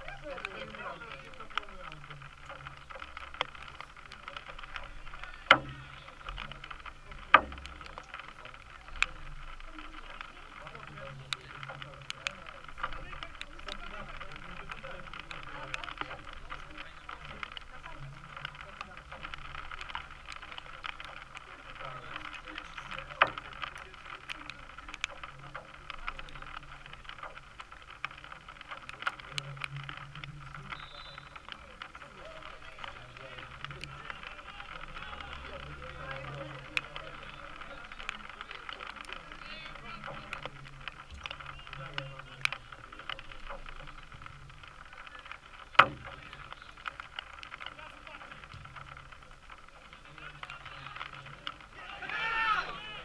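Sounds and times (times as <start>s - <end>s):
scattered clicks: 0.0s - 53.0s
steady low background noise: 0.0s - 53.0s.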